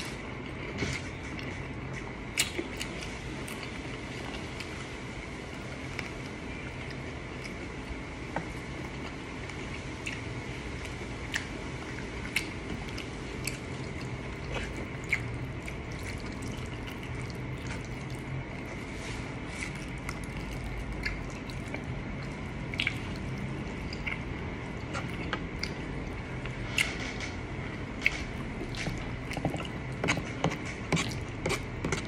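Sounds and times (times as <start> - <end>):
low background hum: 0.0 - 32.0
people chewing and smacking lips: 0.0 - 32.0.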